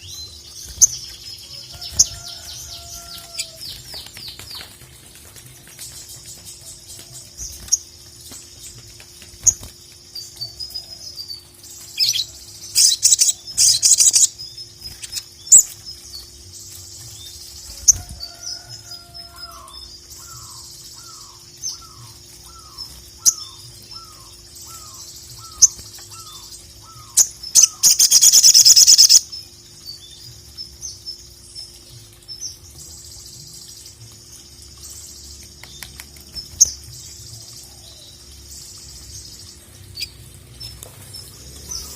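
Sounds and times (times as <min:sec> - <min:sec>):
bird singing chirps and trills: 0:00.0 - 0:41.9.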